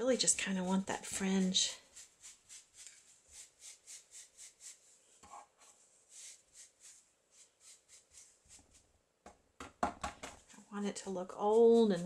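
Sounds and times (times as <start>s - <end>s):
brush strokes on canvas: 0.0s - 8.9s, 10.4s - 12.0s.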